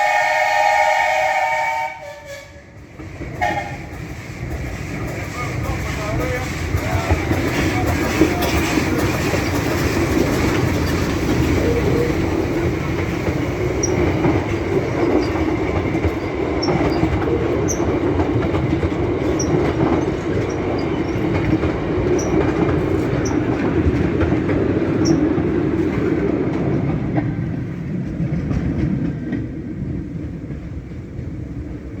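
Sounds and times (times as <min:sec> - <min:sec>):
steam tram mechanical rumble: 0:00.0 - 0:32.0
wheels clattering on rail: 0:02.7 - 0:32.0.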